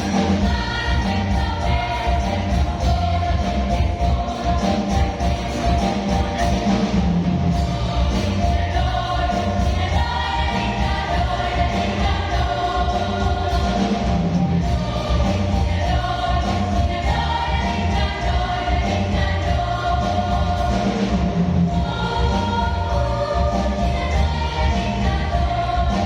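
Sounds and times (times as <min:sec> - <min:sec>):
choir singing: 0:00.0 - 0:26.0
steady low beat: 0:00.0 - 0:26.0.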